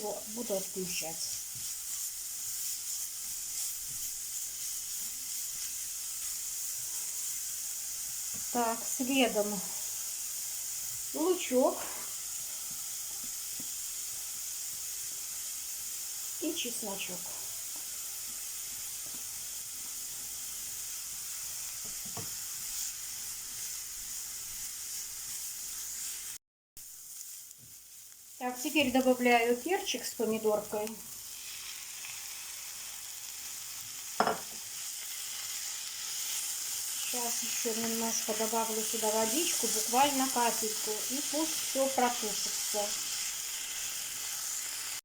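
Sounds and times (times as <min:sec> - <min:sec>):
carrots sizzling in oil: 0:00.0 - 0:45.0.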